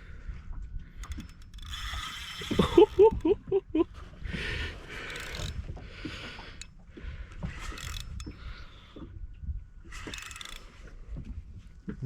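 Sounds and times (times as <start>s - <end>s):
low rumble of wind and water: 0.0s - 12.0s
fishing gear rustles and clicks: 0.2s - 12.0s.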